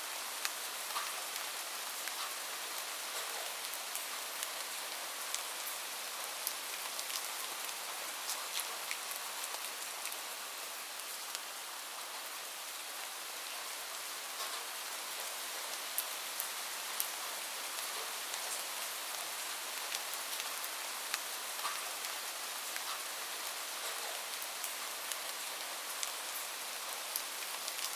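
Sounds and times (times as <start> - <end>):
light rain hiss: 0.0 - 27.9
raindrops ticking on a surface: 0.2 - 12.3, 14.2 - 27.9.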